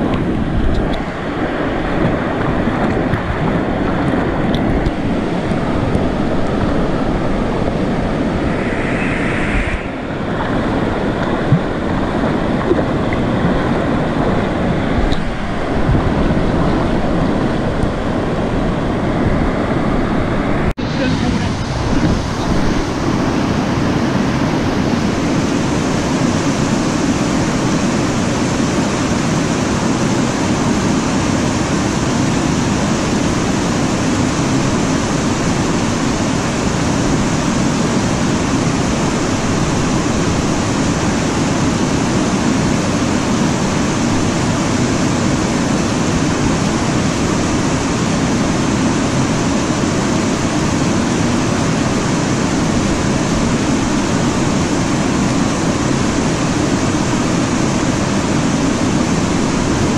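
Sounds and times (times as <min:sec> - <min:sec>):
whitewater rushing over weir: 0:00.0 - 0:59.9.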